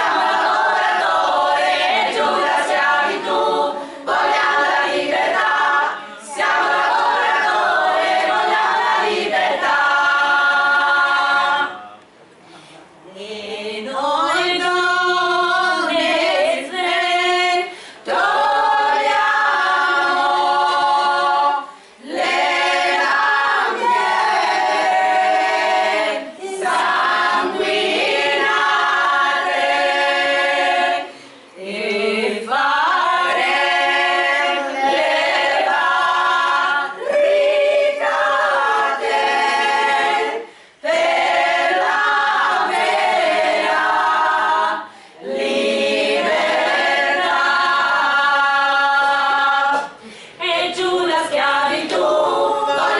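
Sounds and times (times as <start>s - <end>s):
women's choir singing a cappella: 0.0s - 12.0s, 13.1s - 52.9s.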